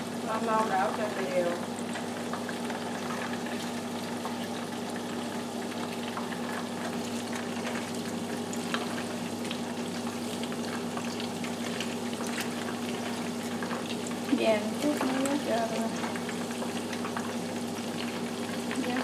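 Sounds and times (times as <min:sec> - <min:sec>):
oil deep-frying sizzle: 0:00.0 - 0:19.0.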